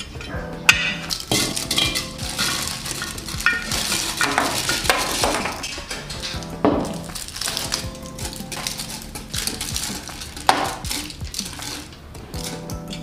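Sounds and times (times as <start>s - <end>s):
candies clattering against glass: 0.0s - 13.0s
candy wrappers crinkling: 1.0s - 13.0s.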